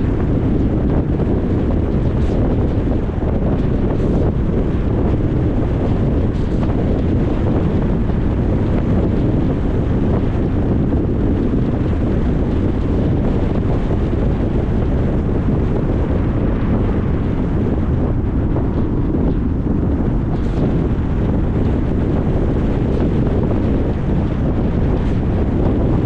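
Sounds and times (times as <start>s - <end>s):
tyres rumbling on road: 0.0s - 26.0s
wind rushing past car: 0.0s - 26.0s.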